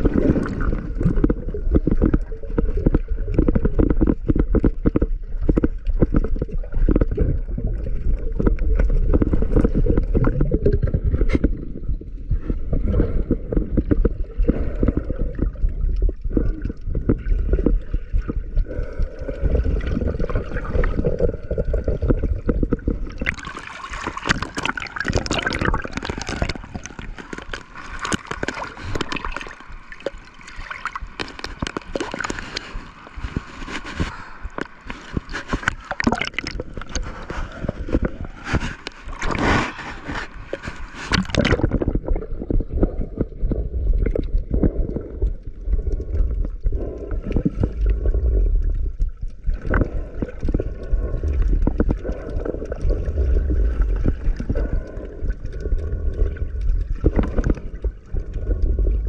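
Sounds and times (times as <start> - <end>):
seawater gurgling and sloshing: 0.0 - 59.0
underwater rumble: 0.0 - 59.0.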